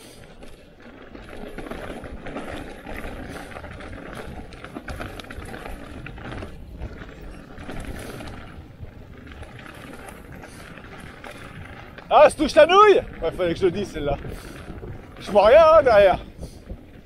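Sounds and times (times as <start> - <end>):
bike rattling over bumps: 0.0 - 17.0
bike tyres crunching on ground: 0.0 - 17.0
wind on microphone: 0.0 - 17.0.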